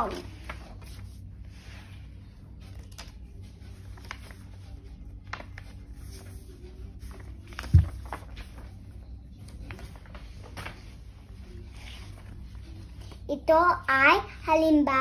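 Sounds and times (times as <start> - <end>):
paper shuffling: 0.0 - 13.3.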